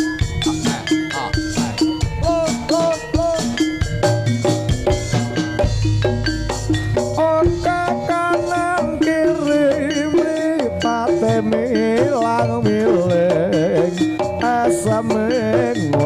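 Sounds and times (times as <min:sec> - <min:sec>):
drums: 0:00.0 - 0:16.0
shaker-like percussion: 0:00.0 - 0:16.0
wavering melody line: 0:00.0 - 0:16.0.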